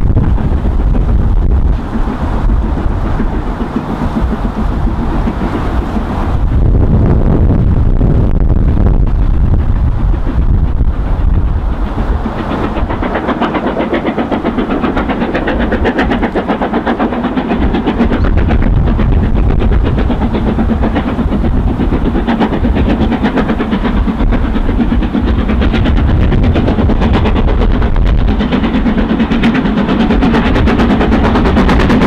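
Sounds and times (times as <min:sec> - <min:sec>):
diesel locomotive engine rattling: 0:00.0 - 0:32.0.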